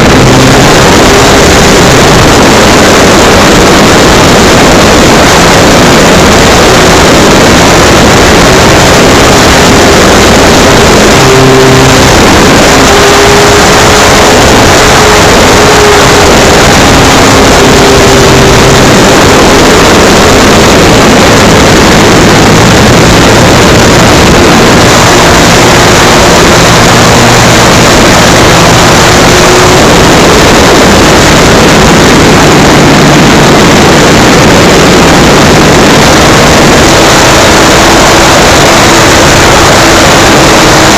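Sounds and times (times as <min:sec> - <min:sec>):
propeller and wind rush: 0:00.0 - 0:40.9.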